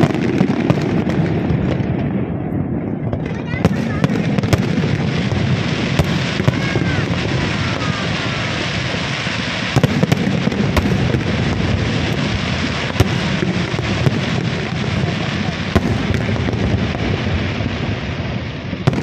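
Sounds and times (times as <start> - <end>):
fireworks crackle and rumble: 0.0 - 19.0.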